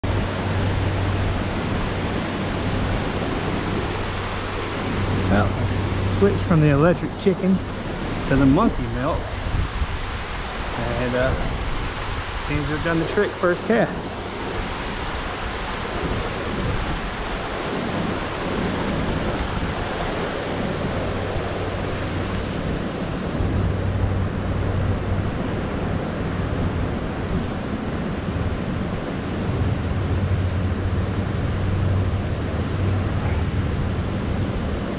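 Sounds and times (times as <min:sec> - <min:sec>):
flowing river water: 0:00.0 - 0:34.9
low rumbling wind buffets: 0:00.0 - 0:34.9
wind on the microphone: 0:00.0 - 0:34.9.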